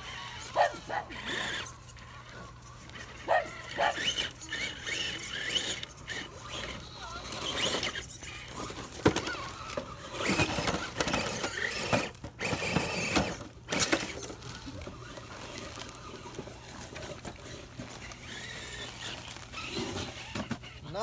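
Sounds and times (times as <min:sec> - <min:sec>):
rc crawler motors whining: 0:00.0 - 0:21.0
tyres scrabbling over rocks: 0:00.0 - 0:21.0
rc car knocking on rocks: 0:02.7 - 0:20.8.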